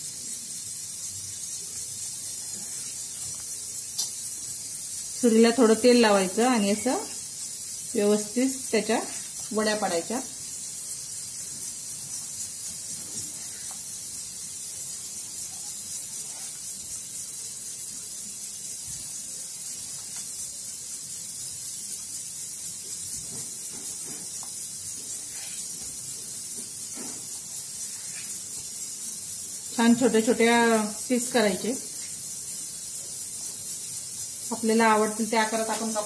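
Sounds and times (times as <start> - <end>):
high hiss: 0.0 - 36.0.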